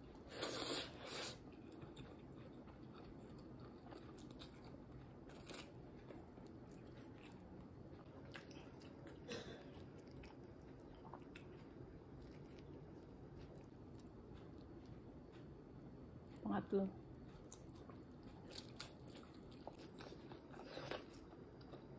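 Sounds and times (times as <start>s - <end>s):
person chewing food: 0.1s - 16.4s, 17.0s - 21.9s.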